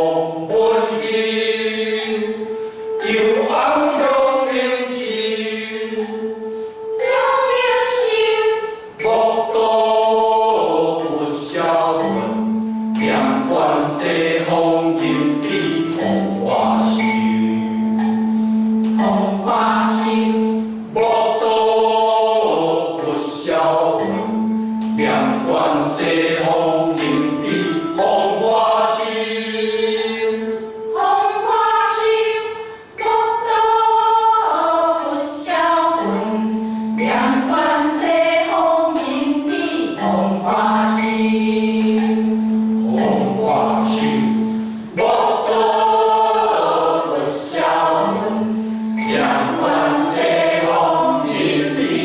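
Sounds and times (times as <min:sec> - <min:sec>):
mixed choir chanting: 0:00.0 - 0:06.4, 0:07.0 - 0:12.4, 0:13.0 - 0:17.7, 0:19.0 - 0:24.3, 0:25.0 - 0:36.4, 0:37.0 - 0:52.0.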